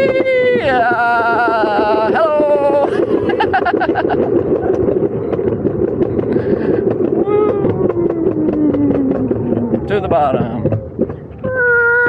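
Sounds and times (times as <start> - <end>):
longboard clacks: 0.0 - 12.0
longboard wheels rumbling: 0.0 - 12.0.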